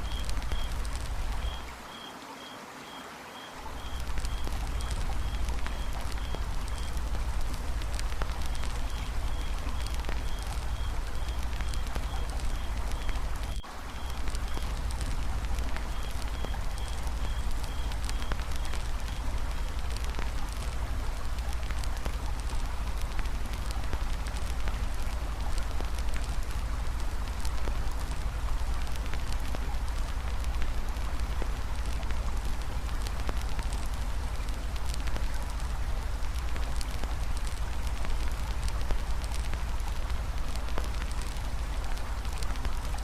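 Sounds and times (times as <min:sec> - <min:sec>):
campfire crackling and popping: 0:00.0 - 0:01.8, 0:03.8 - 0:43.0.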